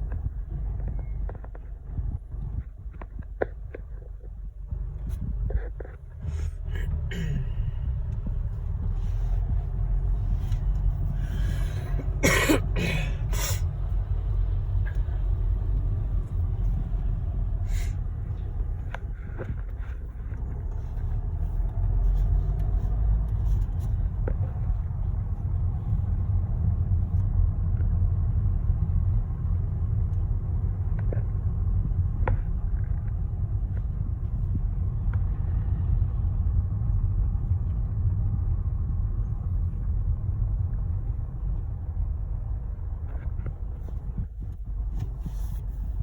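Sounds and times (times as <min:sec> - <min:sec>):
car driving rumble: 0:00.0 - 0:46.0.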